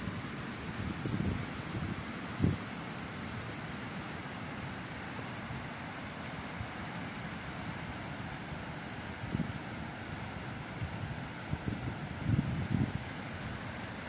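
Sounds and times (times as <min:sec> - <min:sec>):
tyres hissing on wet road: 0:00.0 - 0:14.0.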